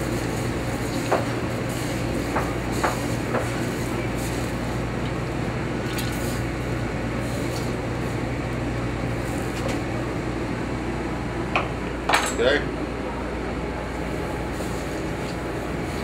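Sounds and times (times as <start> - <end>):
fan running: 0.0 - 16.0.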